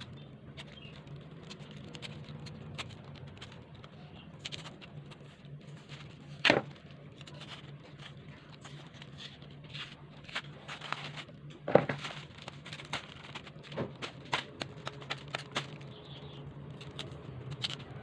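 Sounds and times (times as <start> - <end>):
knife scraping roots: 0.0 - 18.0.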